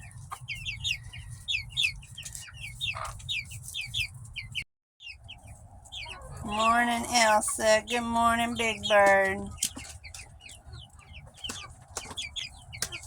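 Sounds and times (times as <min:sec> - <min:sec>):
chicken clucking: 0:00.0 - 0:13.0
chicks peeping: 0:00.0 - 0:13.0.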